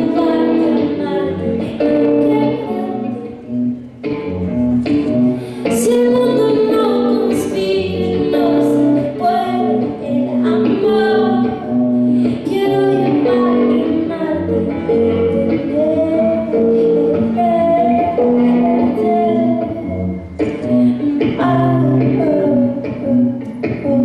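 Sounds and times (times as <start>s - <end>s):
woman singing: 0.0s - 3.4s, 5.6s - 24.0s
live band playing: 0.0s - 24.0s.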